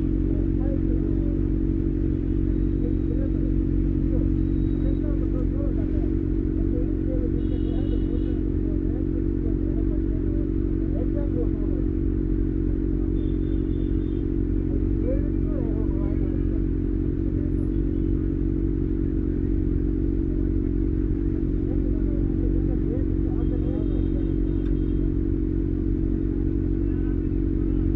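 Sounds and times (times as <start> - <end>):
motorcycle engine running steadily: 0.0 - 27.9.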